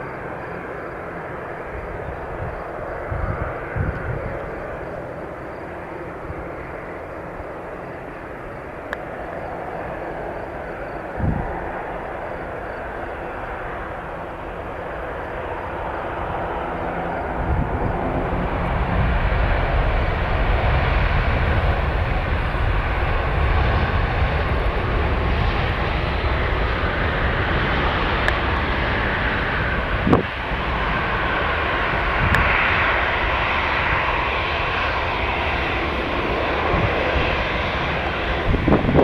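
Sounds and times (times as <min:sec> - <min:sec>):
airliner engines roaring overhead: 0:00.0 - 0:39.0.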